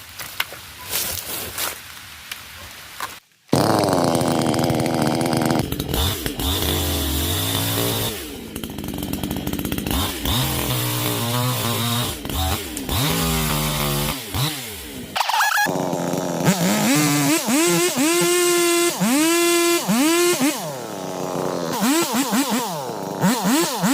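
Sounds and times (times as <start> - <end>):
chainsaw engine revving: 3.5 - 23.9.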